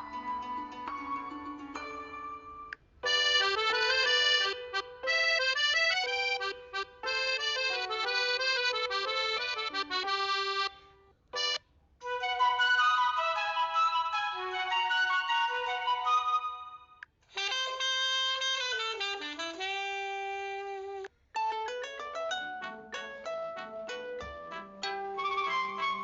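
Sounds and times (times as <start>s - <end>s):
phone ringtone melodies: 0.0s - 17.0s, 21.4s - 26.0s.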